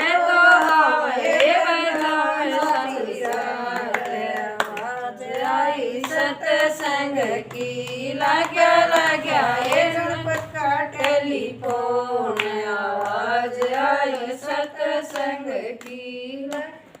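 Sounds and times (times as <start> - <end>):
hand claps keeping time: 0.0 - 17.0
woman singing devotional song: 0.0 - 17.0.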